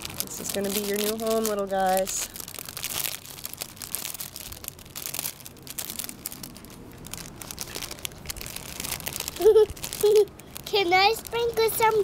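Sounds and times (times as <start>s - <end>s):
package crinkling: 0.0s - 12.0s.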